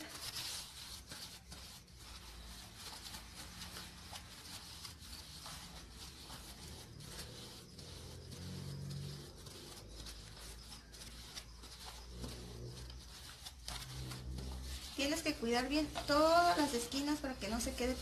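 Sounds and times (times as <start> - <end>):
paper napkin rubbing plastic mold: 0.0 - 18.0.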